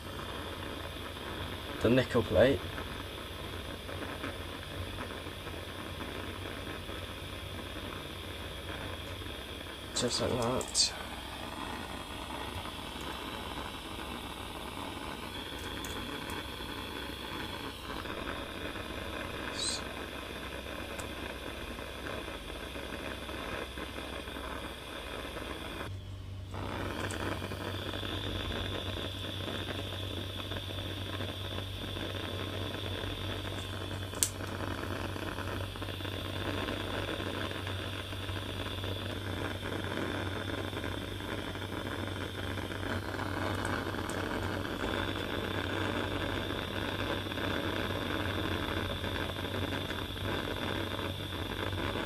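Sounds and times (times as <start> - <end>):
low electrical hum: 0.0 - 52.0
steady hiss: 0.0 - 52.0.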